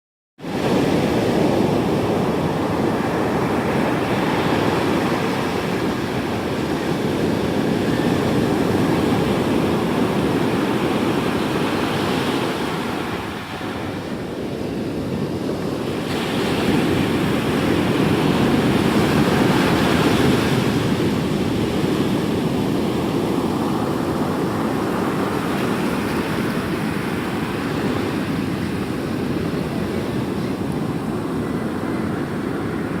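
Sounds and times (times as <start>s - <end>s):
heavy surf waves breaking: 0.4s - 33.0s.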